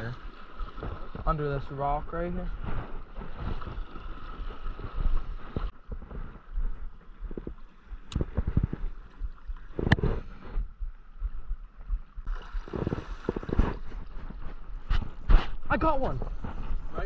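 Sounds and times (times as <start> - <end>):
wind buffeting microphone: 2.4 - 17.0.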